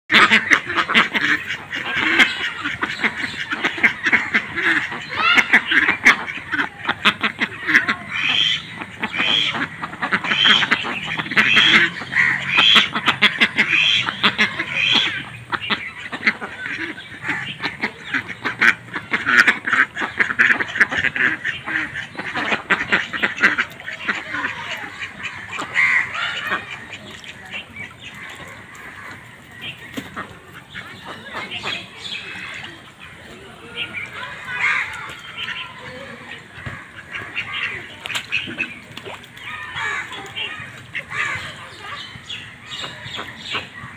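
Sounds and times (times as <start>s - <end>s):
ducks quacking: 0.1s - 43.9s.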